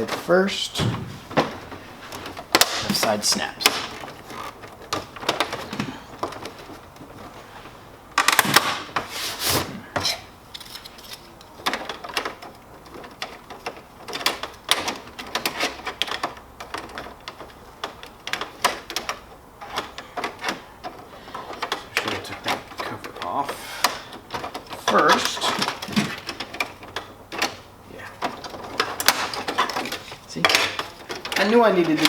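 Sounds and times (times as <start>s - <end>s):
plastic panels clicking and knocking: 0.0s - 7.4s, 8.1s - 9.1s, 9.9s - 32.0s.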